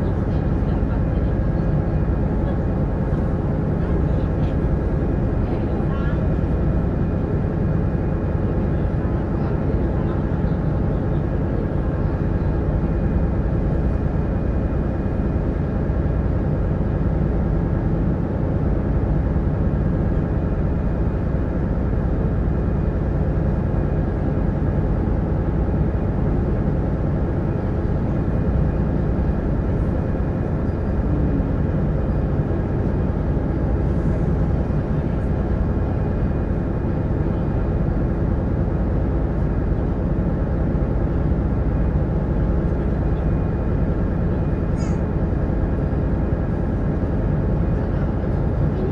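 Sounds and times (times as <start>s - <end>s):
boat diesel engine droning: 0.0s - 48.9s.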